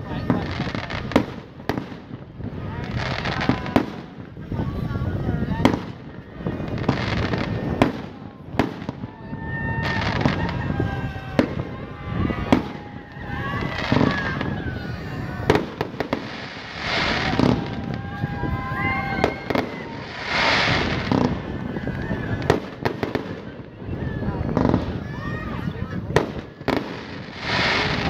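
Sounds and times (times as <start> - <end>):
fireworks hissing: 0.0 - 23.6, 26.0 - 28.0
fireworks bangs: 0.0 - 28.0.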